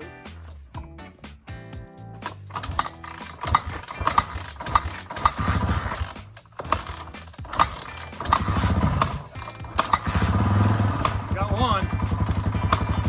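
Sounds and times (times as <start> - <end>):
mechanical clicks and clanks: 2.2 - 13.0
motorcycle engine turning over sputtering: 2.2 - 13.0.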